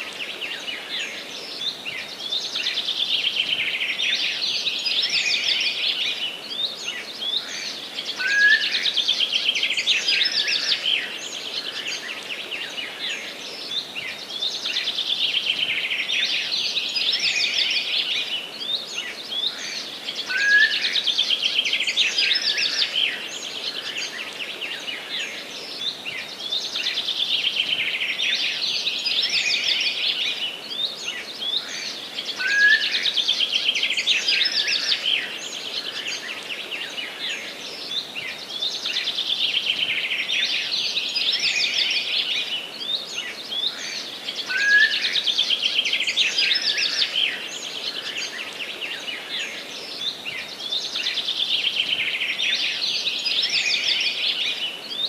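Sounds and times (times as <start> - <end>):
faint steady hiss: 0.0 - 55.0
songbirds chorus: 0.0 - 55.0.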